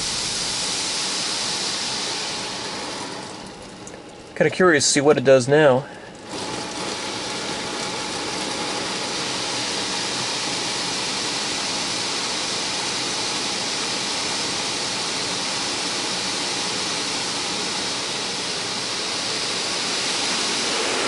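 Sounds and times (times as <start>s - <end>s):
car wash water jets hissing: 0.0s - 21.0s.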